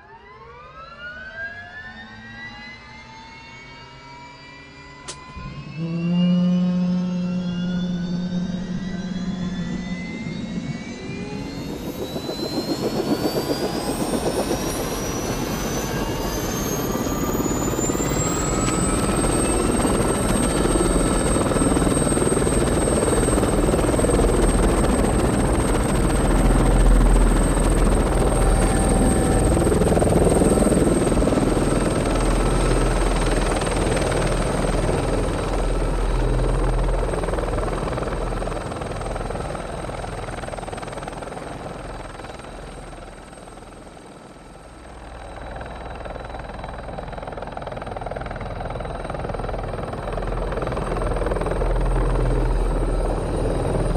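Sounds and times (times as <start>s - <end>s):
helicopter turbine whine: 0.0s - 53.9s
helicopter rotor noise: 5.1s - 53.9s.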